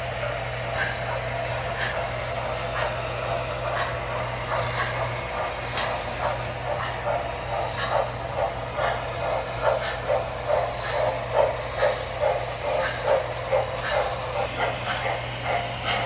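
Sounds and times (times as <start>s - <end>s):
model train wheels clicking: 0.0s - 16.0s.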